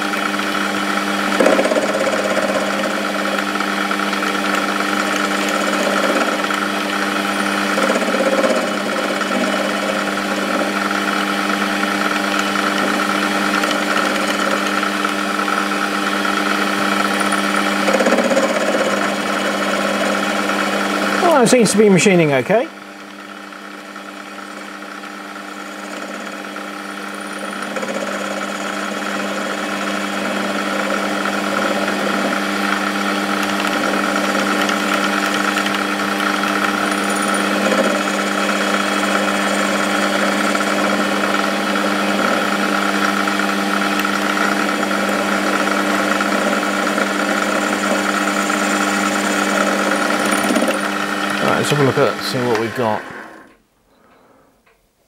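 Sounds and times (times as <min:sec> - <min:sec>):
lathe tool cutting aluminium: 0:00.0 - 0:22.3, 0:23.0 - 0:53.6
lathe spindle humming: 0:00.0 - 0:54.5.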